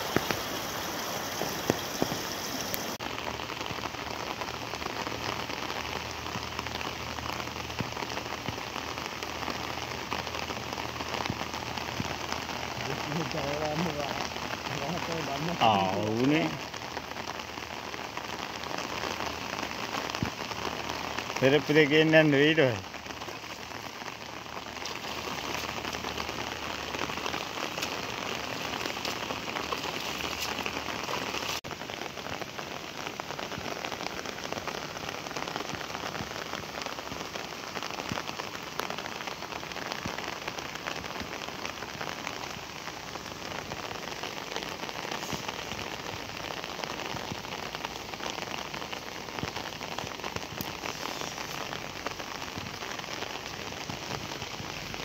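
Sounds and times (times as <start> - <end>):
heavy rain on standing water: 0.0 - 55.0.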